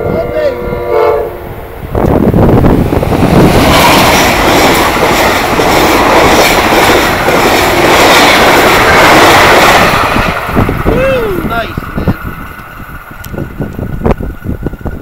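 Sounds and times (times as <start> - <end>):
passenger train passing at speed: 0.0 - 15.0.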